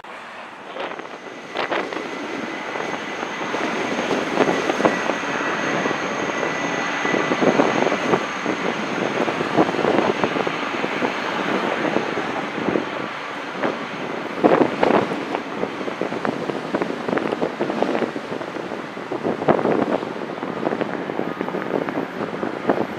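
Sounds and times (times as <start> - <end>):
high engine whine: 0.0 - 22.9
jet airliner engines rushing: 0.0 - 22.9.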